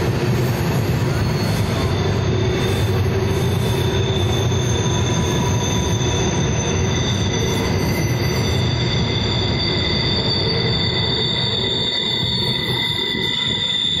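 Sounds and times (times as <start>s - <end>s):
train wheels rumbling: 0.0s - 14.0s
wheel flanges squealing: 0.0s - 14.0s.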